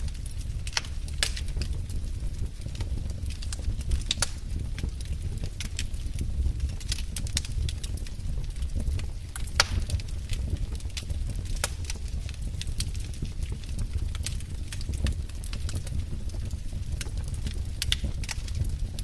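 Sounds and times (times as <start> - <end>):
logs crackling in a fireplace: 0.0 - 19.0.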